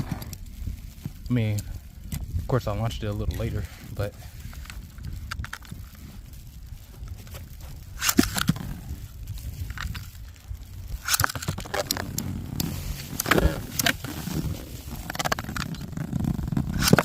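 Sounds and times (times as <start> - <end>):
clicks scrapes and crackles: 0.0 - 17.0
wind rumble on microphone: 0.0 - 17.0.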